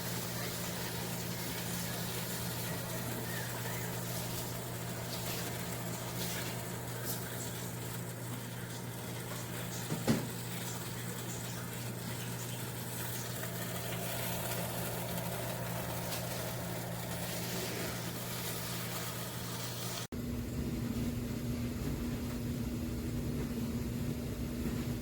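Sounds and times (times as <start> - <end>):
air fryer fan humming: 0.0 - 25.0.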